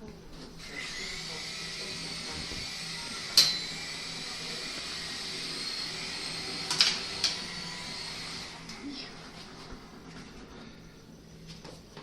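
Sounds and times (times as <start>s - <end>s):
model helicopter rotor whine: 0.6s - 10.6s.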